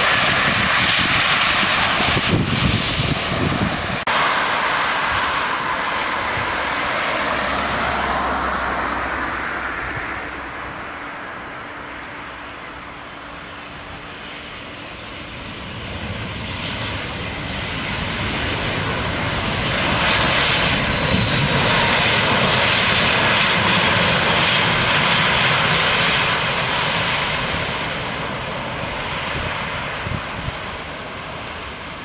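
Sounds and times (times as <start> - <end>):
airliner engine noise passing: 0.0 - 32.0
faint jet whine: 0.0 - 32.0.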